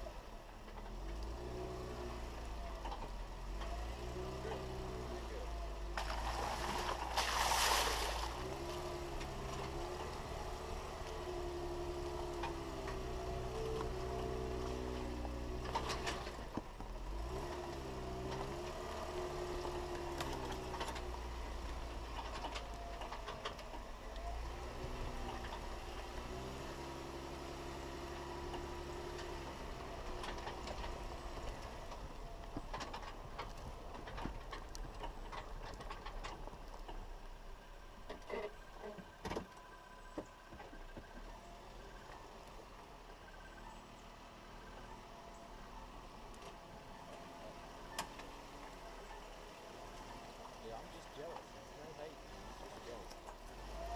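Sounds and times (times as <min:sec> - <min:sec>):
off-road vehicle engine: 0:00.0 - 0:53.9.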